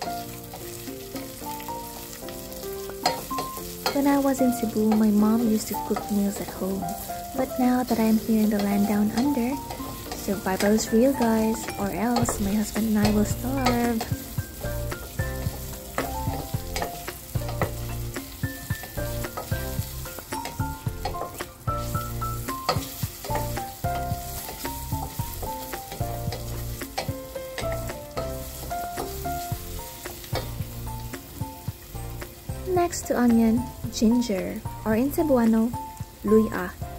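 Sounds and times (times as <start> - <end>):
onions sizzling in oil: 0.0 - 36.9
soft melodic music: 0.0 - 36.9.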